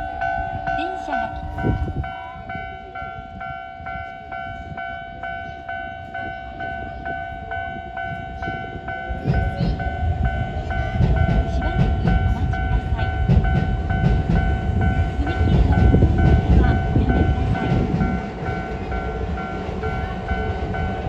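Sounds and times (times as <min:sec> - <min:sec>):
electric train rumbling past: 0:00.0 - 0:21.0
level crossing warning bell: 0:00.0 - 0:21.0
train wheels clacking on rails: 0:00.0 - 0:21.0.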